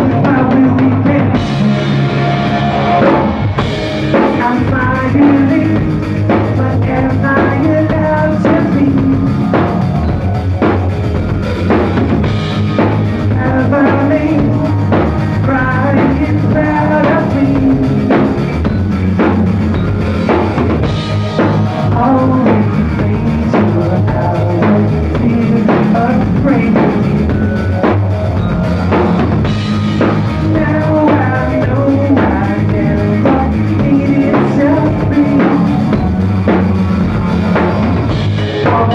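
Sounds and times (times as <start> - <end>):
distorted electric guitars: 0.0 - 38.9
drum kit playing steady beat: 0.0 - 38.9.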